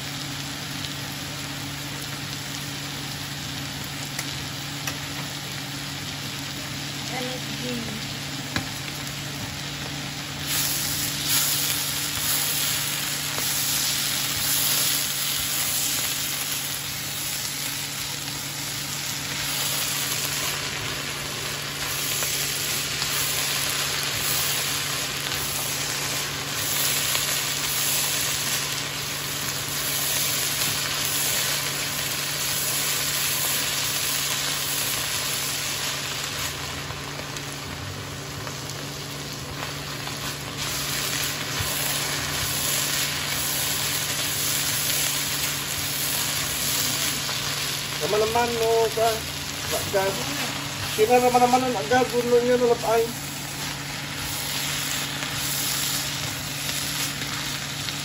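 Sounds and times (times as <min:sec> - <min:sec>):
vegetables sizzling in a frying pan: 0:00.0 - 0:58.0.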